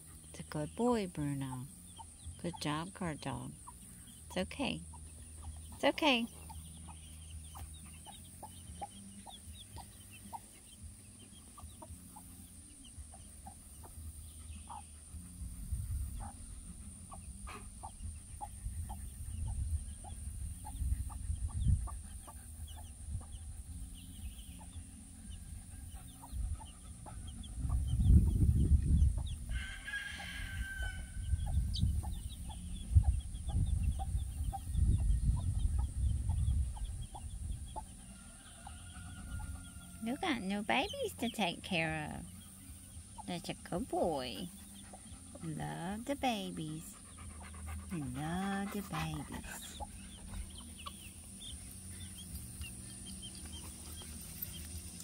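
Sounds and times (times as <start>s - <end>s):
chicks peeping: 0.0s - 55.0s
hen clucking: 0.0s - 55.0s.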